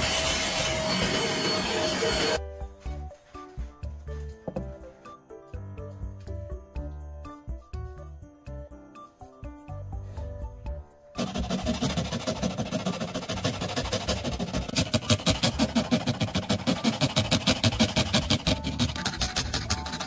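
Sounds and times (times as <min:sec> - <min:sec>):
music: 0:00.0 - 0:20.0.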